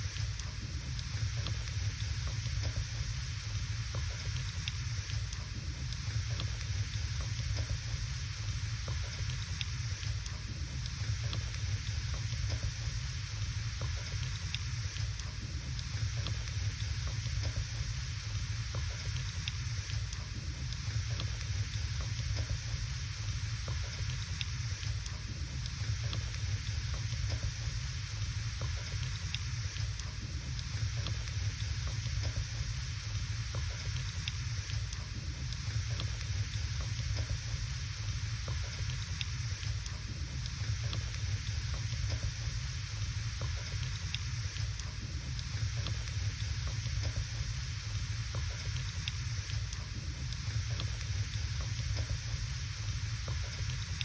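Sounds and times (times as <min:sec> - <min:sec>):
fire crackling and popping: 0:00.0 - 0:54.0
fire hiss and low rumble: 0:00.0 - 0:54.0.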